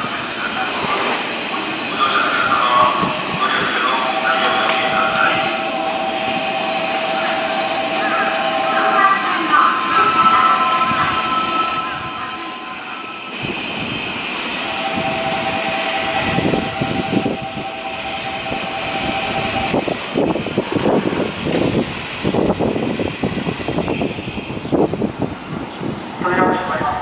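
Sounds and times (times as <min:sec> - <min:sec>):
subway train rushing: 0:00.0 - 0:27.0
train whine: 0:00.0 - 0:27.0.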